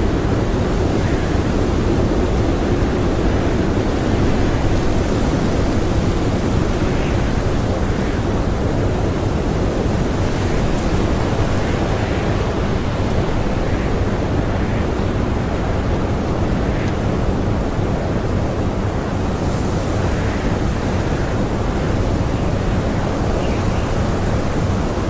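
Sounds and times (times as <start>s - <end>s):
blizzard wind blowing: 0.0s - 25.0s.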